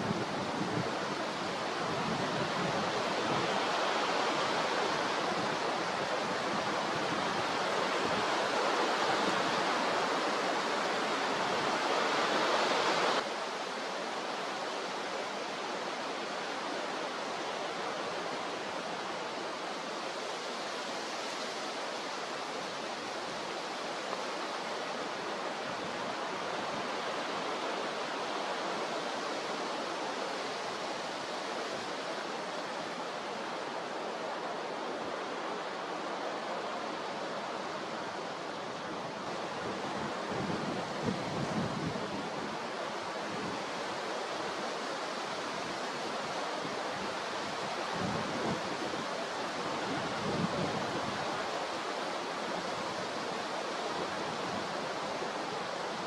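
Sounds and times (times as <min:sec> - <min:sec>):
rough sea: 0:00.0 - 0:56.0.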